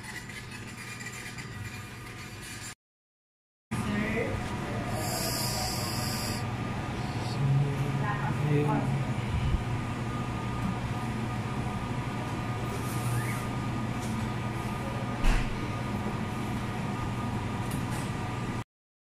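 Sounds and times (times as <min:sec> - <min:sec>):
low mechanical hum: 0:00.0 - 0:02.8, 0:03.7 - 0:18.6.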